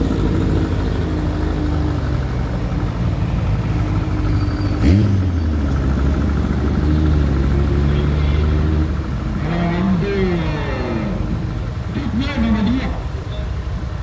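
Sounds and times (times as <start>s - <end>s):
car engine revving: 0.0s - 11.5s
car engines driving past: 0.0s - 14.0s.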